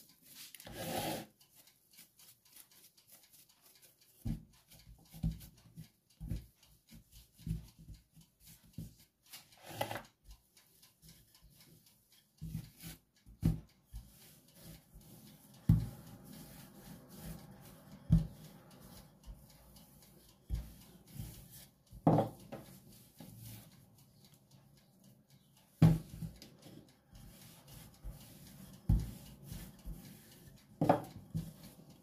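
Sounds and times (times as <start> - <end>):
rolling pin rolling dough: 0.0 - 32.0
hands patting dough: 1.5 - 24.5, 25.7 - 32.0.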